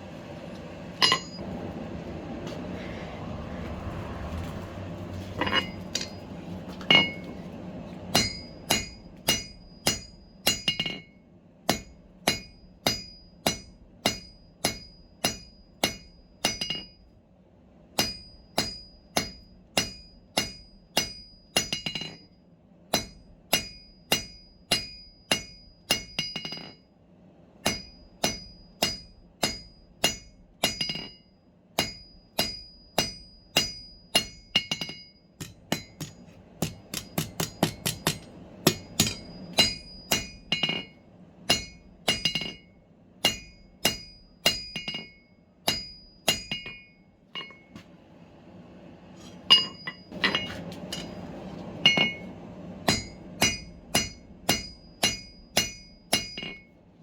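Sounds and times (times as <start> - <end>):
hammer striking steel on anvil: 1.0 - 1.4, 5.4 - 7.4, 8.0 - 17.1, 18.0 - 26.8, 27.6 - 47.8, 49.4 - 56.8.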